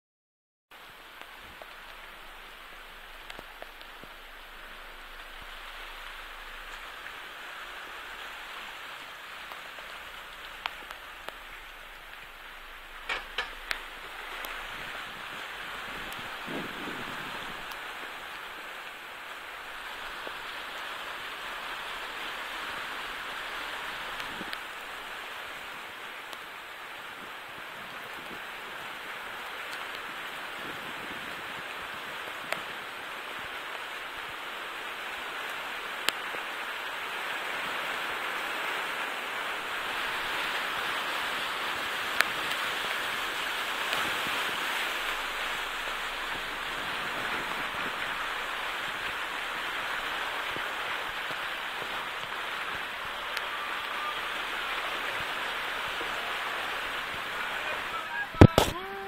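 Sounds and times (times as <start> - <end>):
flood water rushing and splashing: 0.7 - 59.0.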